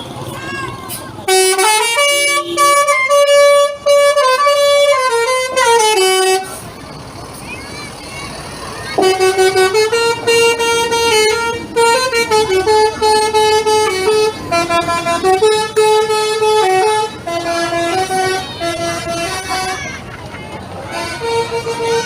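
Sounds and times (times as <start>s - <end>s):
multi-tone musical bus horn: 0.0s - 7.3s, 8.4s - 22.0s.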